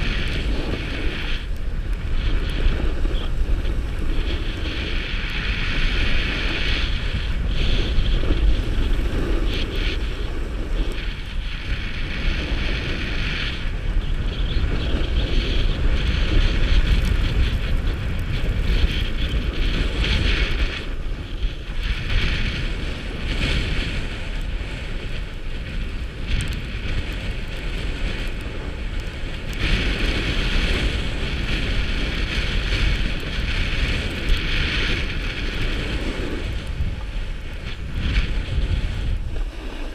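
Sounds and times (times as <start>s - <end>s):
skis sliding on snow: 0.0s - 39.9s
wind rushing over microphone: 0.0s - 39.9s.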